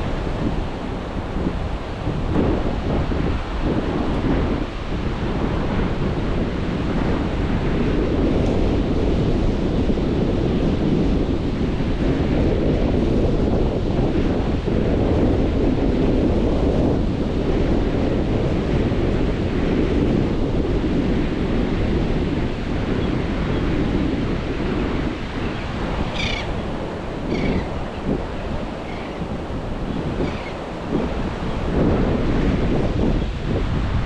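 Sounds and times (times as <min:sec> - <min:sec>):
ocean surf washing in: 0:00.0 - 0:34.0
wind buffeting microphone: 0:00.0 - 0:34.0.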